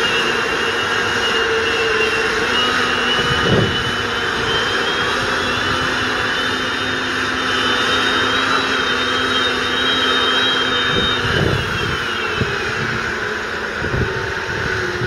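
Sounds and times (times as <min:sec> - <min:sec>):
high whine: 0:00.0 - 0:15.0
tractor diesel engine under load: 0:00.0 - 0:15.0.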